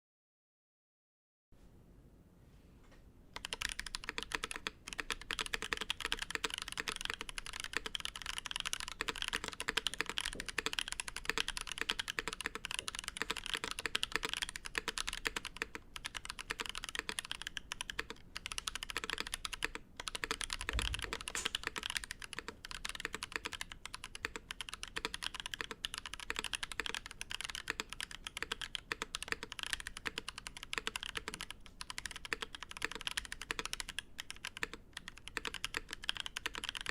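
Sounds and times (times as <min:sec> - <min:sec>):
typing on mechanical keyboard: 0:03.4 - 0:36.9.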